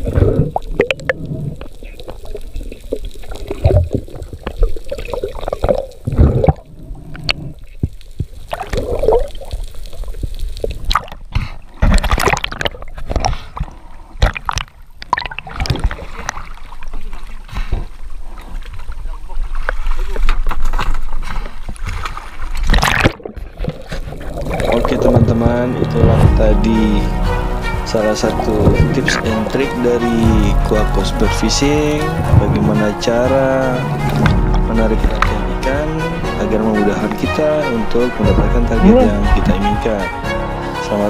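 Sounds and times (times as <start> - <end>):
muffled underwater gurgling: 0.0 - 20.2, 22.7 - 41.0.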